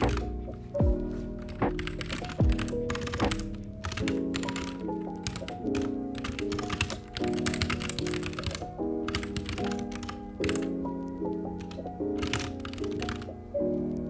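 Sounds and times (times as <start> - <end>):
computer keyboard typing: 0.0 - 13.4
lofi background music: 0.0 - 14.0.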